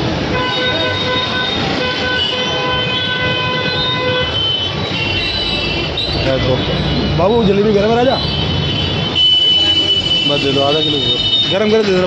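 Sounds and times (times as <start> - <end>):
street traffic: 0.0 - 12.0
vehicle horn honking: 0.3 - 6.7, 8.1 - 12.0.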